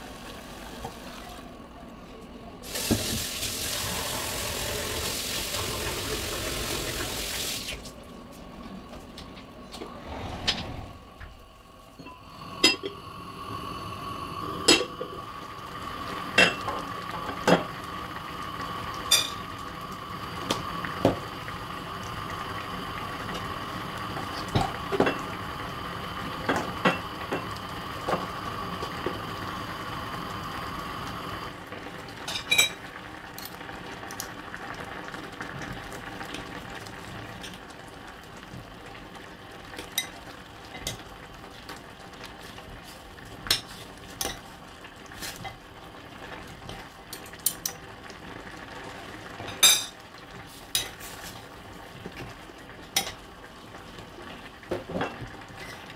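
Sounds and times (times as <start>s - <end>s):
stew boiling in a pot: 0.0s - 55.9s.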